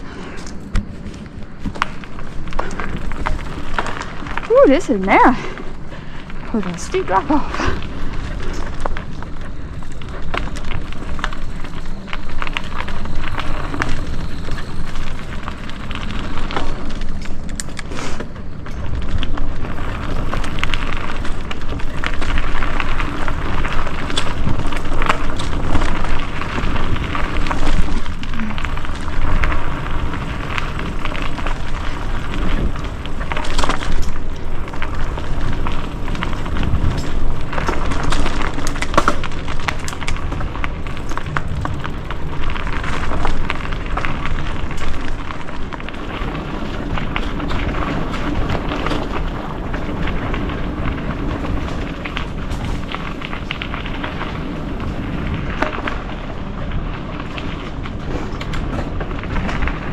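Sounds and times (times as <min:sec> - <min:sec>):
bike clicks and knocks: 0:00.0 - 0:04.6, 0:07.8 - 0:59.9
bike tyres crunching over dirt: 0:00.0 - 0:59.9.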